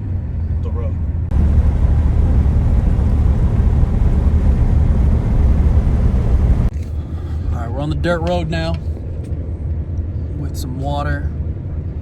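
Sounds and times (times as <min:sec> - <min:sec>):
truck driving on road: 0:00.0 - 0:12.0.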